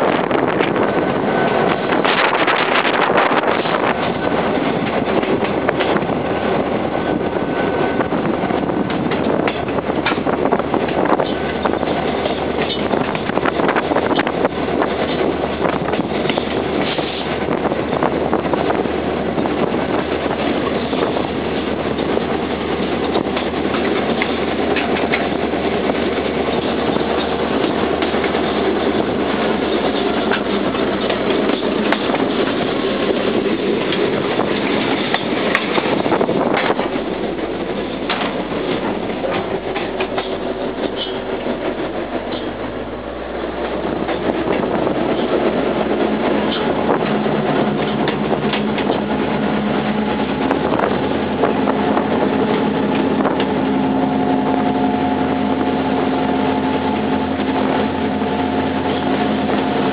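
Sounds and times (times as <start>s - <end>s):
train rolling on track: 0.0s - 59.9s.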